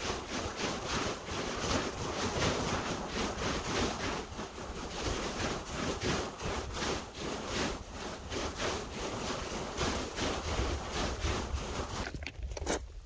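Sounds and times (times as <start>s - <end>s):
surf on pebble shore: 0.0s - 12.8s
wind: 0.0s - 13.0s.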